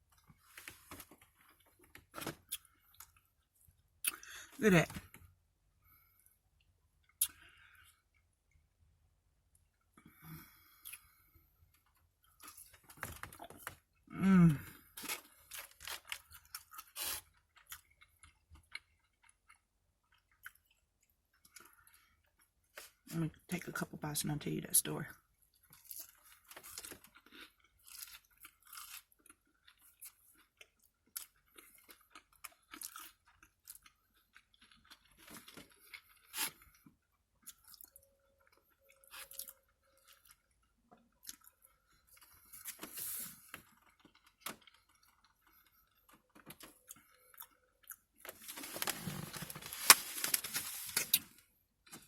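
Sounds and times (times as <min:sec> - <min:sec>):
person chewing crunchy food: 0:00.0 - 0:04.5, 0:07.0 - 0:08.6, 0:10.1 - 0:23.0, 0:25.5 - 0:52.0.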